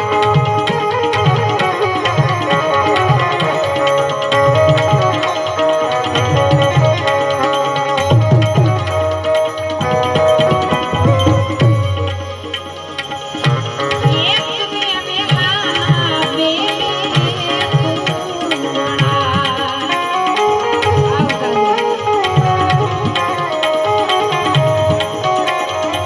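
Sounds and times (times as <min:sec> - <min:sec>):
tabla rhythm: 0:00.0 - 0:26.0
wavering melody line: 0:00.0 - 0:26.0.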